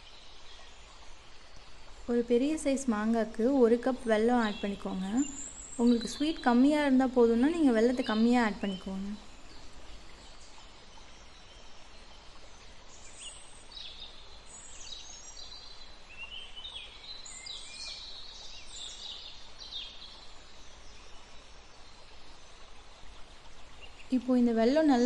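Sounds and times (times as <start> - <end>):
birds chirping: 0.0 - 22.1
faint steady room noise: 0.0 - 25.0.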